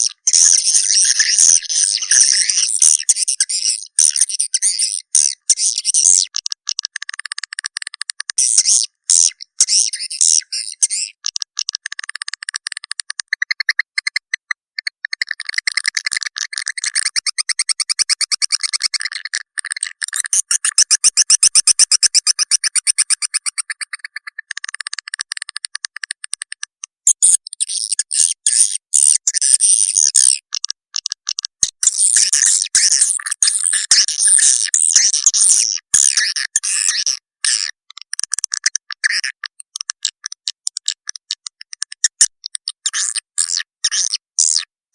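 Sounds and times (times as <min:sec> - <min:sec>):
high-pitched bird chirps and clicks: 0:00.0 - 0:44.7.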